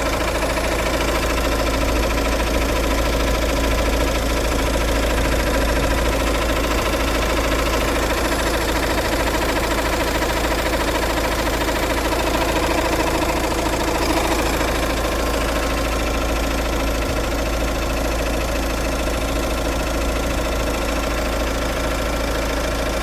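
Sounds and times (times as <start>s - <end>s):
abnormal engine noise: 0.0s - 23.0s
diesel engine idling: 0.0s - 23.0s.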